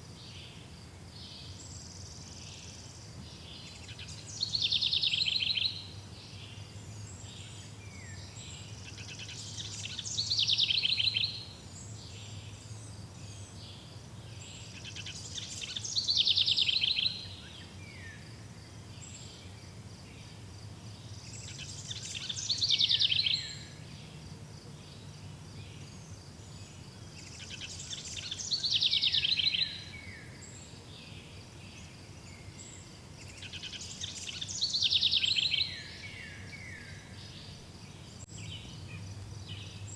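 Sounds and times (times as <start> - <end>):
faint chirring of insects: 0.0 - 39.9.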